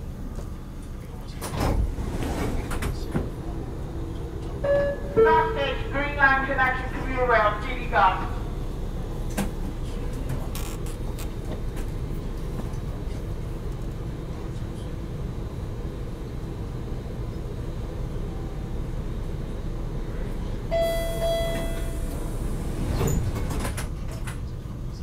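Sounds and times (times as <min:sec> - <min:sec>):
subway car equipment hum: 0:00.0 - 0:25.0.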